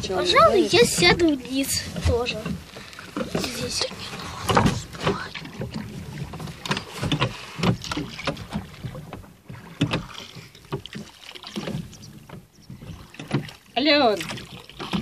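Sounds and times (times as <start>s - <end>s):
oar blades splashing water: 0.0s - 15.0s
oars knocking in oarlocks: 0.0s - 15.0s.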